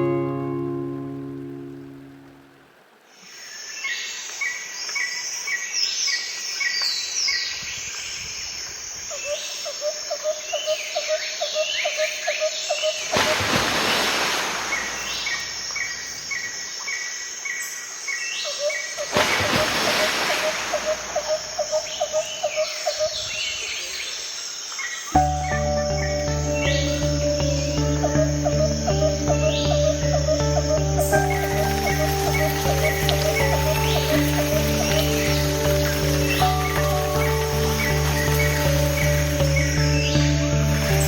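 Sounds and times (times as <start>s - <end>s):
birds chirping: 3.2s - 41.0s.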